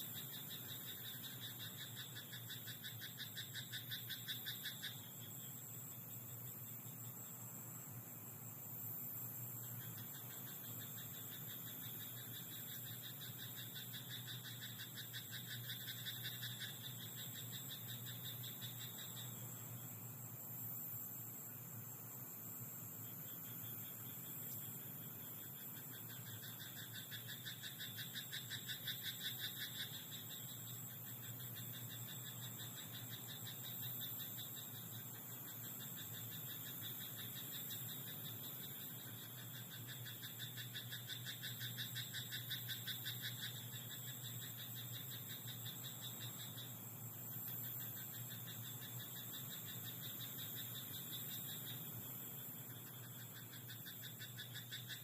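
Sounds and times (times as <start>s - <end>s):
faint hum and hiss: 0.0s - 55.0s
frogs croaking: 0.0s - 55.0s.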